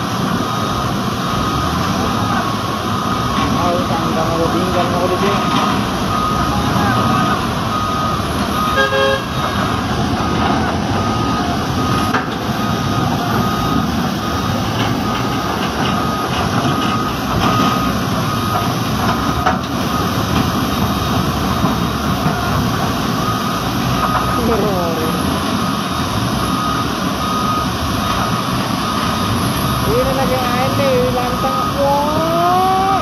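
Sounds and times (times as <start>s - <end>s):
excavator diesel engine running: 0.0s - 33.0s
reversing alarm beeps: 0.0s - 33.0s.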